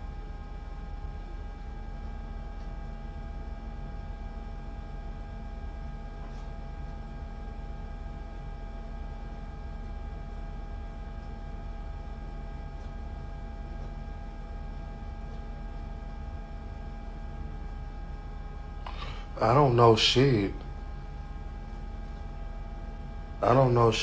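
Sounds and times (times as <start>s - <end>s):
low room hum with tones: 0.0s - 24.0s.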